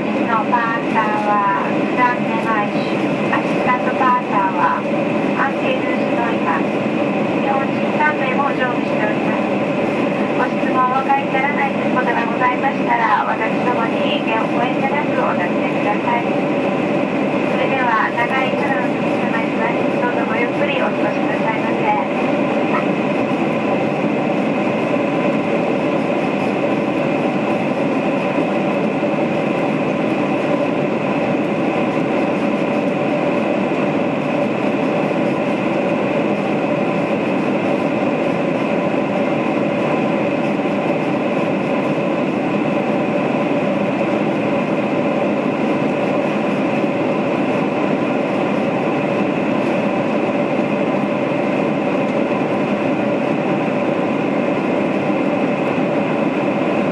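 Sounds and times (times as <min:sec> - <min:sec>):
jet engines at climb power: 0:00.0 - 0:56.9.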